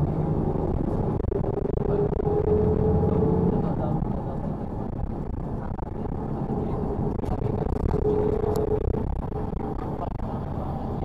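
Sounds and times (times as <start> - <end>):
bus engine and road rumble: 0.0 - 11.0
thin steady whine: 0.0 - 11.0.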